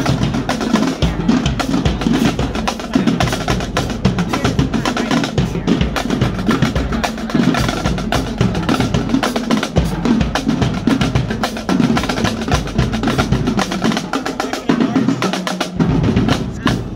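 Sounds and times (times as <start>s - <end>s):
marching snare drums: 0.0s - 16.9s.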